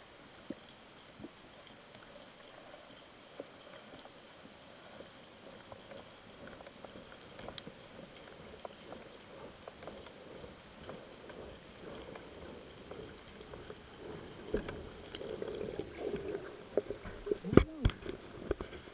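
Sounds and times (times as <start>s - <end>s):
underwater clicks and crackles: 0.0s - 18.9s.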